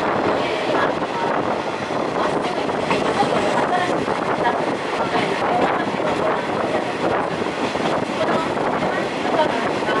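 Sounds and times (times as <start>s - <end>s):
train wheels on rails: 0.0s - 10.0s
wind on microphone: 0.0s - 10.0s.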